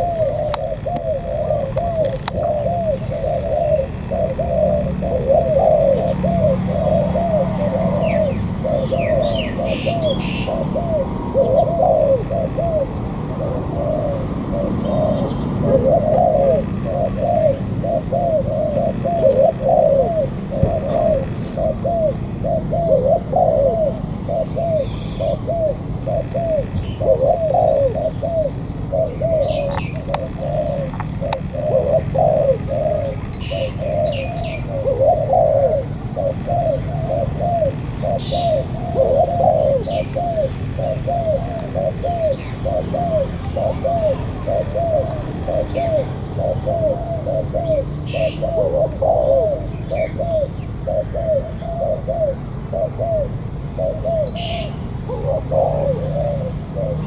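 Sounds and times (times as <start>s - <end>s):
doves cooing: 0.0s - 57.0s
small birds chirping: 0.0s - 57.0s.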